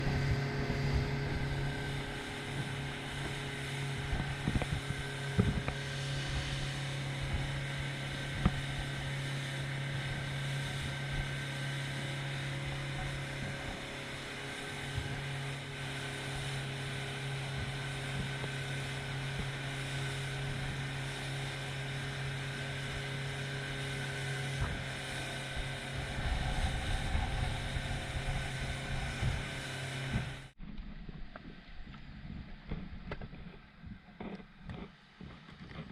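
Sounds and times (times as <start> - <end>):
boat engine running: 0.0 - 35.9
wind buffeting microphone: 0.0 - 35.9.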